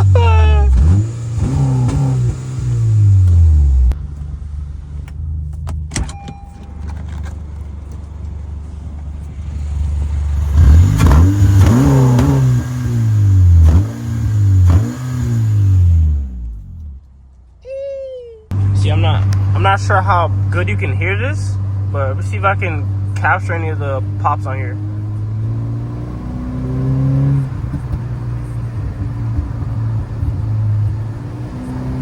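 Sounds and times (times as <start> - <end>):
car engine revving: 0.0 - 5.8, 7.2 - 17.1, 18.5 - 32.0.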